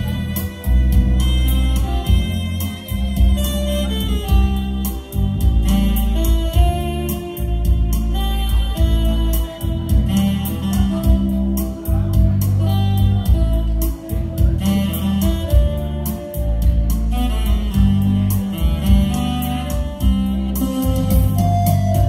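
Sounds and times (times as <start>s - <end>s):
electronic keyboard music: 0.0s - 22.0s.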